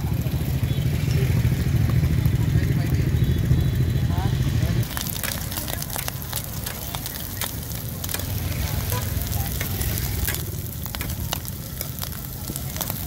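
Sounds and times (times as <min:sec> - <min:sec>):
corn kernels sizzling in a pan: 0:00.1 - 0:13.0.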